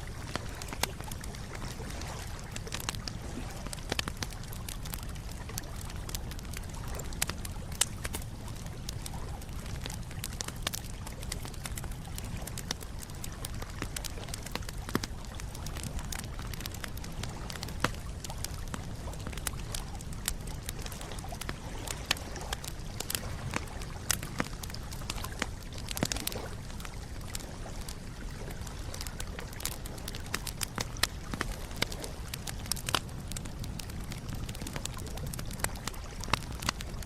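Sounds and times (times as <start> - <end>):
campfire crackling and popping: 0.0 - 37.0
low rumble of burning: 0.0 - 37.0.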